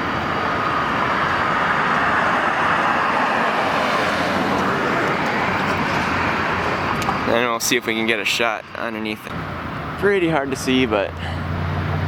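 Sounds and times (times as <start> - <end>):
outdoor background roar: 0.0 - 12.0.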